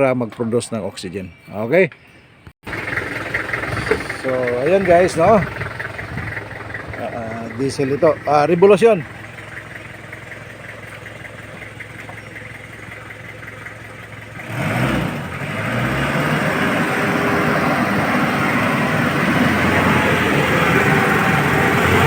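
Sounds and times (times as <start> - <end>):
diesel engine idling and revving: 2.6 - 22.0.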